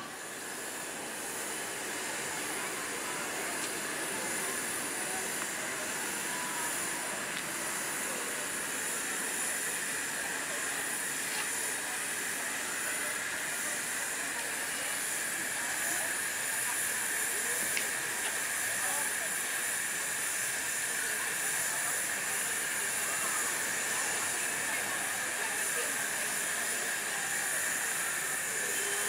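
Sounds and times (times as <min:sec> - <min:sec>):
steam hissing: 0:00.0 - 0:29.0.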